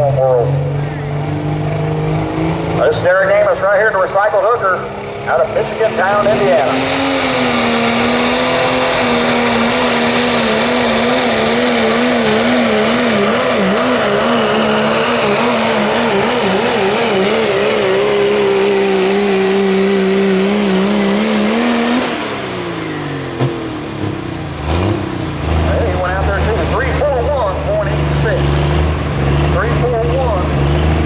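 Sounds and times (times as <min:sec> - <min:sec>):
diesel truck engine at full throttle: 0:00.0 - 0:31.0.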